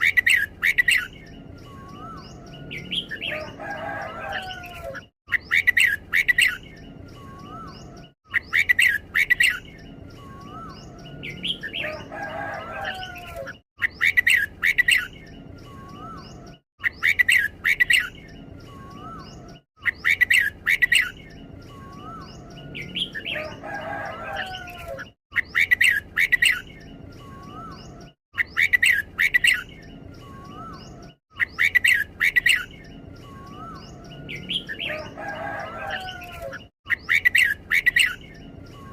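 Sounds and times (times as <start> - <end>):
bulbul singing warbled phrases: 0.0 - 38.9.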